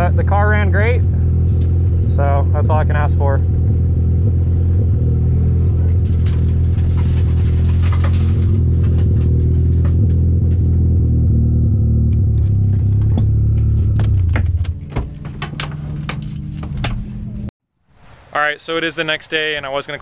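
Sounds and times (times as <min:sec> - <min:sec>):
car engine idling: 0:00.0 - 0:17.5.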